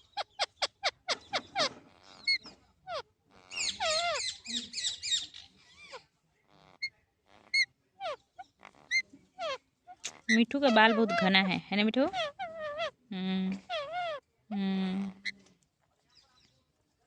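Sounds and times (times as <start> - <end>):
parakeet chirping and chattering: 0.0 - 13.0, 13.6 - 15.4.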